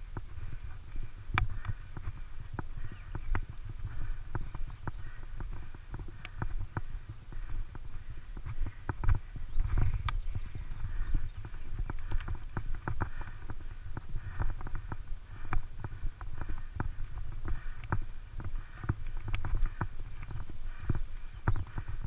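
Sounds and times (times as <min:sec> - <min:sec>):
bicycle rattling over gravel: 0:00.0 - 0:22.0.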